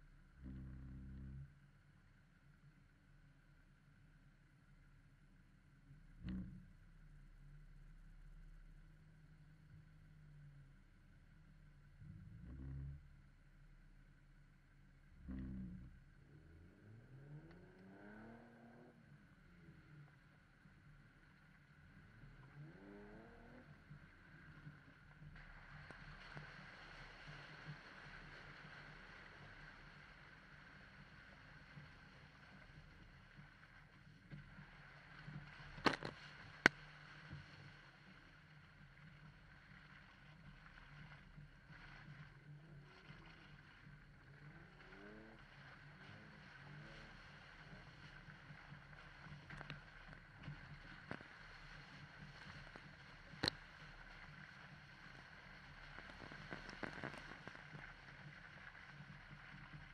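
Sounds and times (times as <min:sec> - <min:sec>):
engine running low drone: 0:00.0 - 0:59.9.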